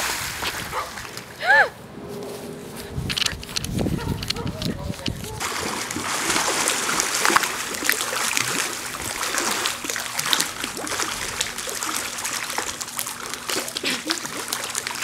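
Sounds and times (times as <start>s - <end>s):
water splashing and churning: 0.0s - 2.0s, 3.4s - 15.0s.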